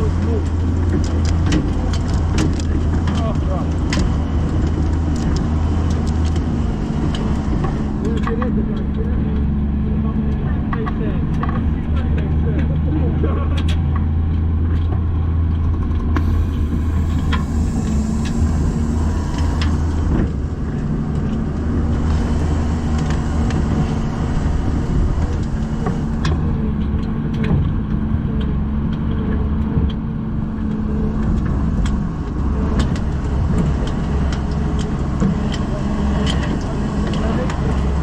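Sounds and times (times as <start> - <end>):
truck engine running: 0.0 - 38.0.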